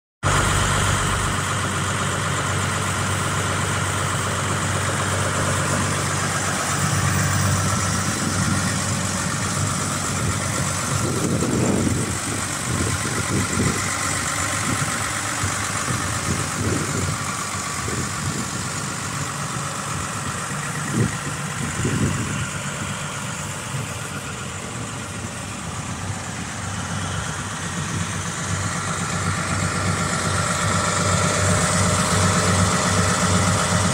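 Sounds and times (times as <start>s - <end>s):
tractor diesel engine idling: 0.2s - 33.9s.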